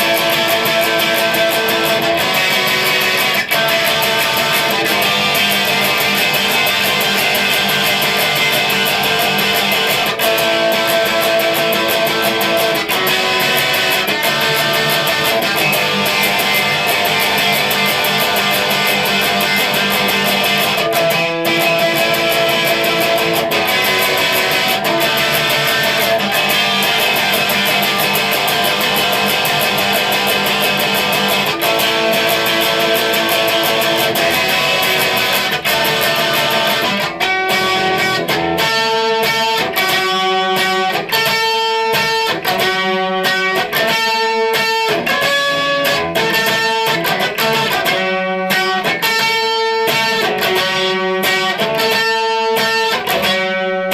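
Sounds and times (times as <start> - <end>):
electric guitar strumming rock chords: 0.0 - 53.9.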